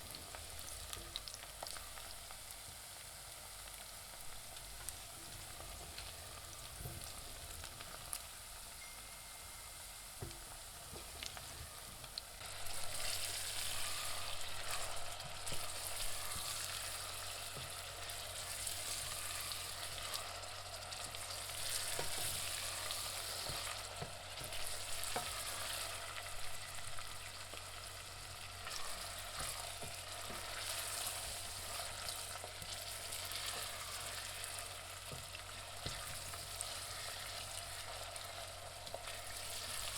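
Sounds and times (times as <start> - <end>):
onions sizzling in a pan: 0.0 - 39.9.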